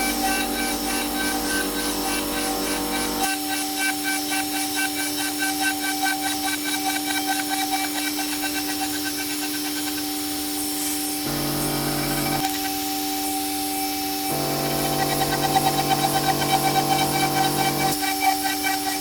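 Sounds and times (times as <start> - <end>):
bit cutting aluminium: 0.0 - 19.0
router spindle whine: 0.0 - 19.0.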